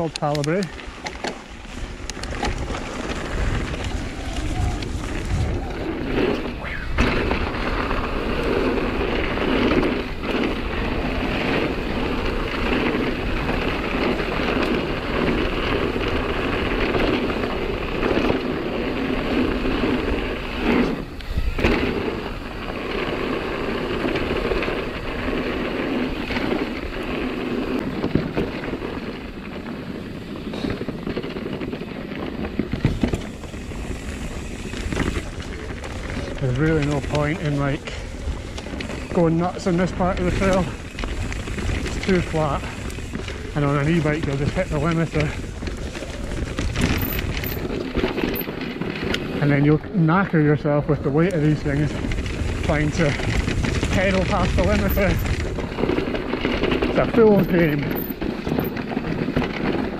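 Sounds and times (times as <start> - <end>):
bike knocks and rattles: 0.0 - 59.9
bike tyre rumble on gravel: 0.0 - 59.9
wind buffeting microphone: 0.0 - 59.9.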